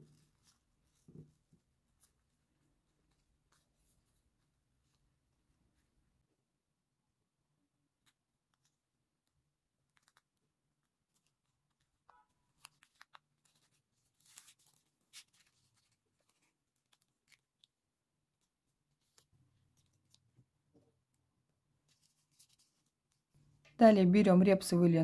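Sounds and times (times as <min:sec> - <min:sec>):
ribbon rustling: 0:00.0 - 0:06.0, 0:08.0 - 0:23.7.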